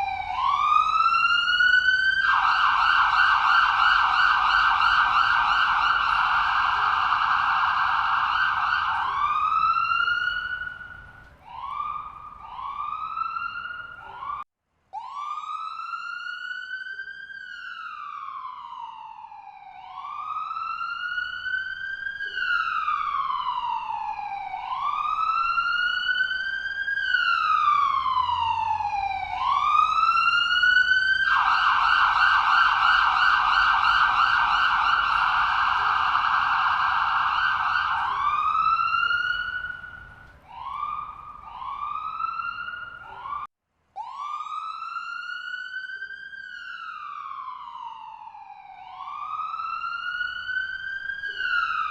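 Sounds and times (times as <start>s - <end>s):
ambulance siren: 0.0s - 51.9s.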